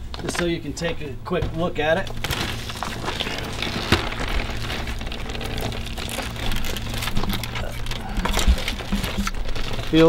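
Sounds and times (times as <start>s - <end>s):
woven mat rustling and crackling: 1.5s - 10.0s.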